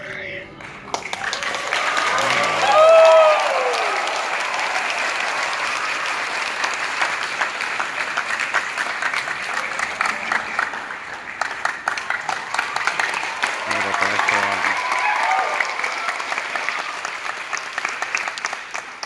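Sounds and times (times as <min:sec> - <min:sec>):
audience applauding: 0:00.6 - 0:19.0.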